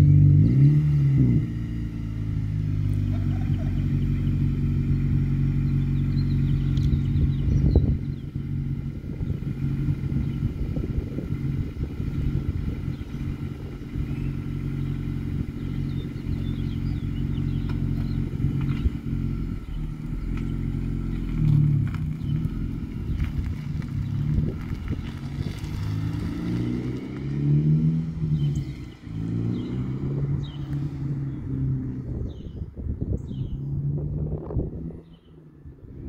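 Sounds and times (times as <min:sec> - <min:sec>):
car engine idling: 0:00.0 - 0:36.0
car engine revving and accelerating: 0:00.0 - 0:36.0.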